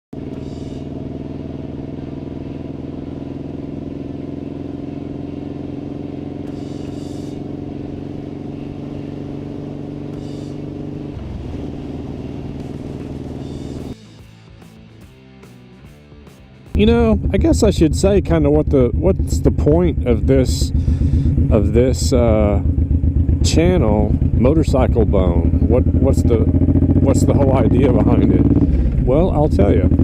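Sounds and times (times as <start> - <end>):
motorcycle engine running: 0.1 - 30.0.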